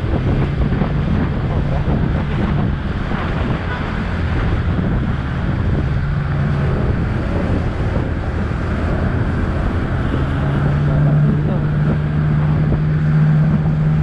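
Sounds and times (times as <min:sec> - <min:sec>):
motorcycle engine humming: 0:00.0 - 0:14.0
wind noise on microphone: 0:00.0 - 0:14.0.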